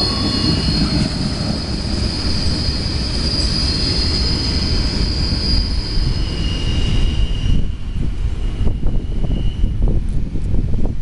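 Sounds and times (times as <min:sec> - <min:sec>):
high-pitched wheel squeal: 0:00.0 - 0:09.8
freight train rumbling on rails: 0:00.0 - 0:11.0.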